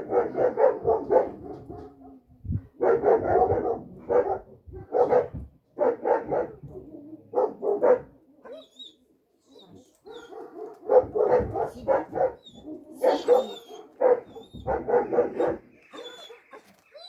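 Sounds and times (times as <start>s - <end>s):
dog barking: 0.0s - 2.1s, 2.8s - 8.2s, 10.0s - 16.7s.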